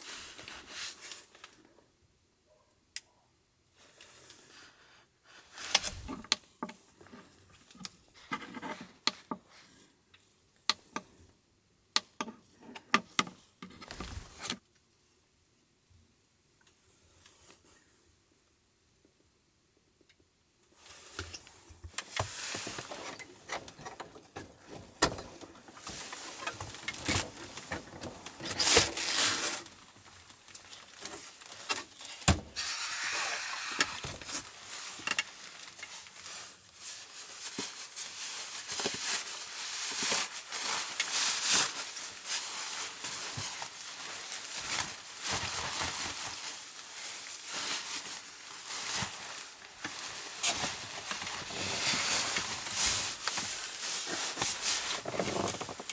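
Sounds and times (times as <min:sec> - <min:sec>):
rustling of handled objects: 0:00.0 - 0:02.0, 0:03.7 - 0:11.4, 0:12.0 - 0:14.6, 0:20.6 - 0:55.9.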